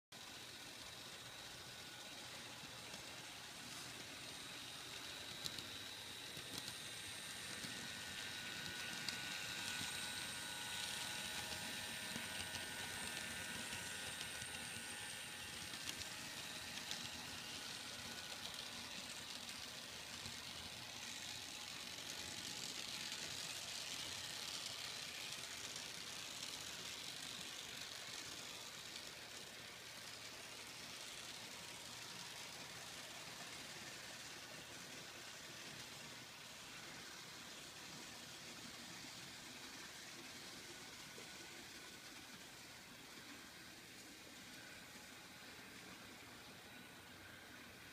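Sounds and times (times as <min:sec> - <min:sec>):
steady hiss: 0:00.2 - 0:47.9.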